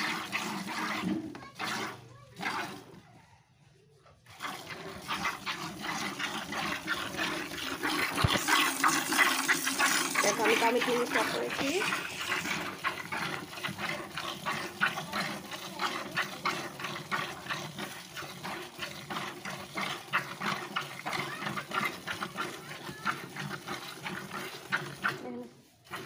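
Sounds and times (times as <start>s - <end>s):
milk squirting into plastic bucket: 0.0s - 3.1s, 4.1s - 26.0s.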